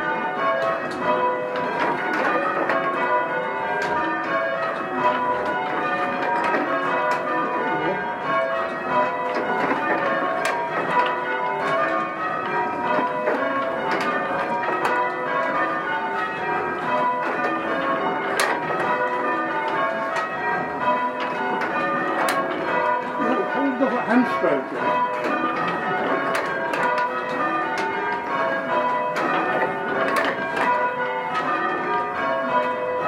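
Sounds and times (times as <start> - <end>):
church bells change-ringing: 0.0 - 33.0.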